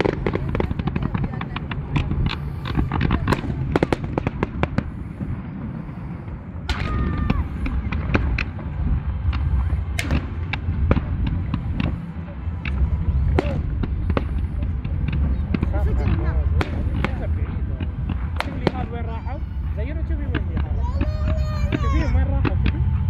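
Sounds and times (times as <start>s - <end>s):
booming firework shells: 0.0s - 23.0s
fireworks crackling: 0.0s - 23.0s
loud firework bangs: 0.0s - 23.0s.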